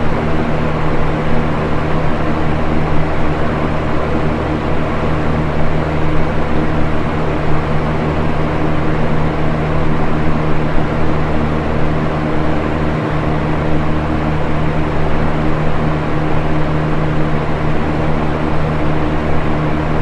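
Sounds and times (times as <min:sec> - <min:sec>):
fan air whoosh: 0:00.0 - 0:20.0
low motor hum: 0:00.0 - 0:20.0.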